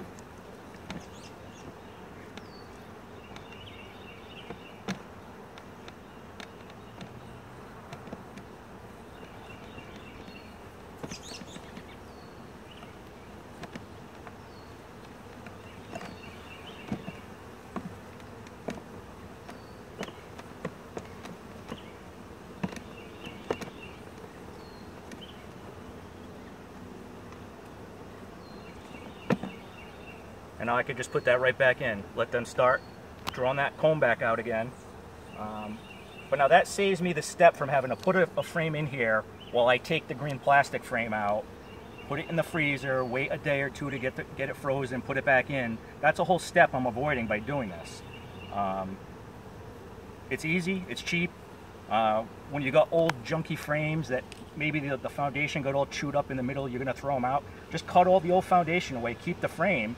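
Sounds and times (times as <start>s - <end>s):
honeybees buzzing: 0.0s - 59.9s.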